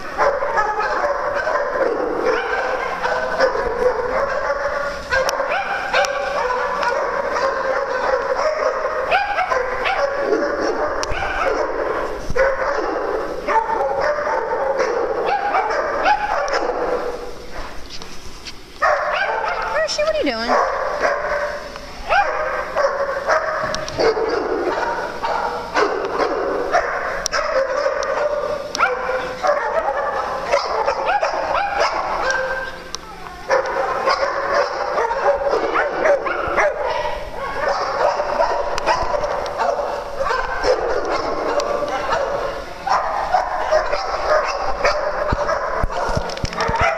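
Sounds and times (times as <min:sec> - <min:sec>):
small dogs barking and yipping: 0:00.0 - 0:17.8, 0:18.8 - 0:46.9.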